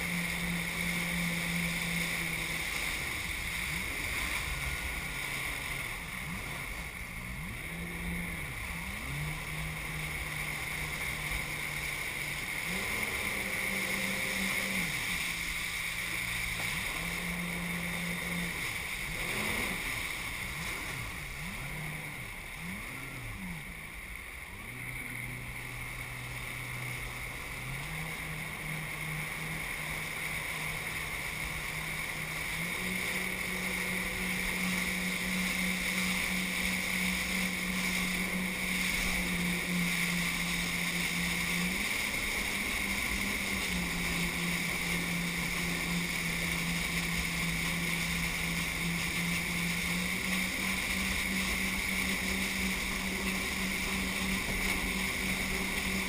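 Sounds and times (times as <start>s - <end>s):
jet ski engine running: 0.0s - 56.0s
steady high whine: 0.0s - 56.0s.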